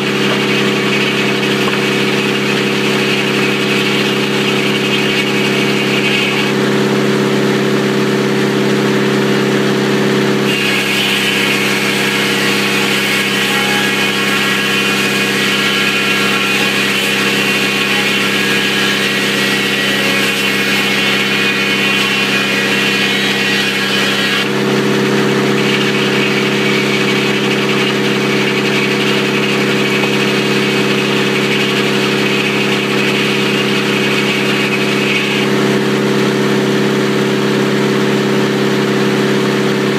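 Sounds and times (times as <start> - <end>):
saw blade cutting wood: 0.0 - 7.8, 10.4 - 37.8
sawmill engine running: 0.0 - 39.9.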